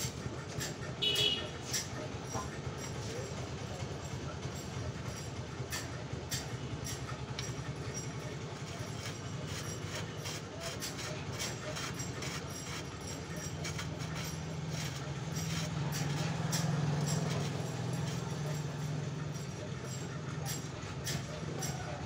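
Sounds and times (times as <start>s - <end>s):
pulsing mechanical rumble: 0.0s - 22.0s.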